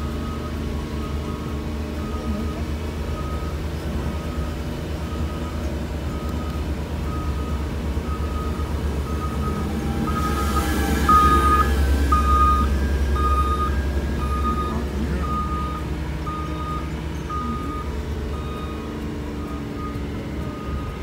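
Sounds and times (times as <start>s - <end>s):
reversing alarm beeping: 0.0s - 21.0s
vehicle engine running: 0.0s - 21.0s.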